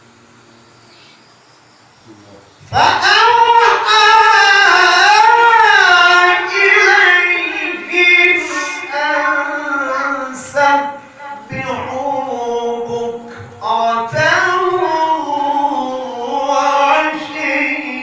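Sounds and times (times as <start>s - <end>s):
man reciting melodically: 2.6s - 18.0s.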